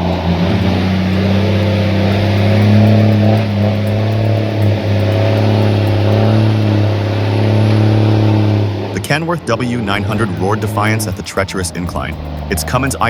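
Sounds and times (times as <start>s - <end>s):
heavy engine running: 0.0s - 13.0s.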